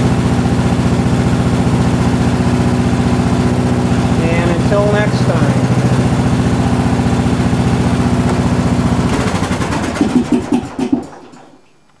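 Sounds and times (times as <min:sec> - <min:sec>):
lawn tractor engine idling: 0:00.0 - 0:11.5
engine pops: 0:02.2 - 0:11.9.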